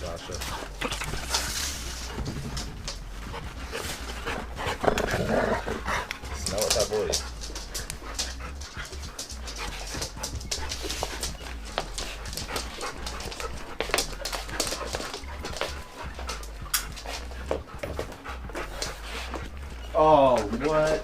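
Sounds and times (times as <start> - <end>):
dogs panting: 0.0 - 21.0.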